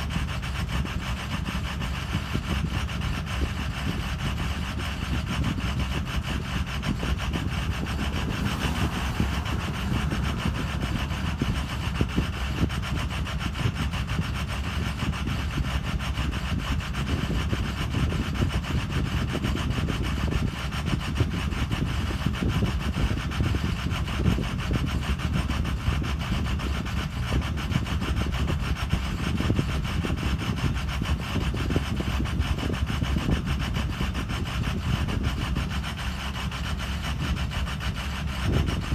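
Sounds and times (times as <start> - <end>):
diesel engine idling unevenly: 0.0 - 38.9.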